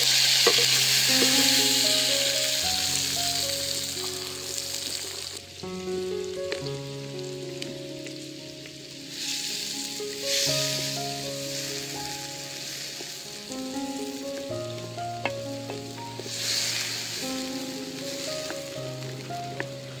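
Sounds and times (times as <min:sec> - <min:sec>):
music with long held notes: 0:00.0 - 0:20.0
tomatoes sizzling in a pan: 0:00.0 - 0:20.0.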